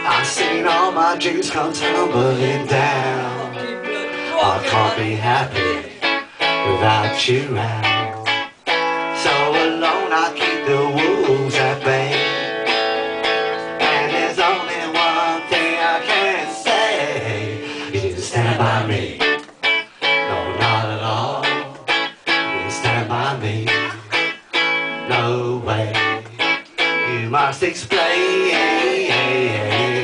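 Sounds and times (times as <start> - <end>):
electric guitar strummed: 0.0 - 18.0, 19.0 - 27.5.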